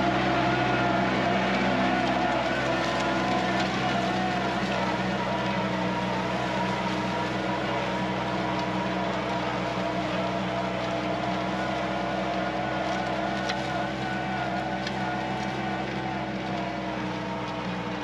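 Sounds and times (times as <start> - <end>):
diesel tractor engine under load: 0.0 - 18.0.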